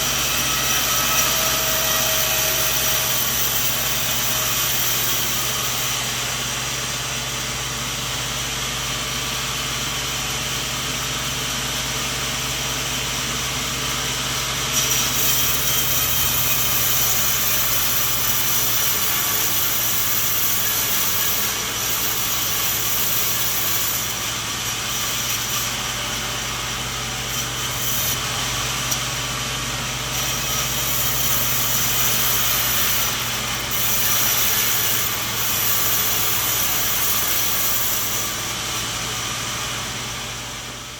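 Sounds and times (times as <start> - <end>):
sawmill blade sawing wood: 0.0 - 40.9.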